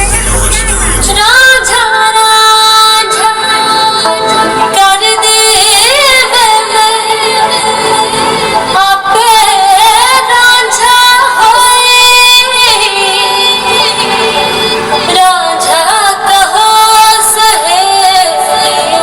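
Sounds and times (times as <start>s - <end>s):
song over sound system: 0.0s - 19.0s
woman singing ornamented melody: 1.2s - 19.0s.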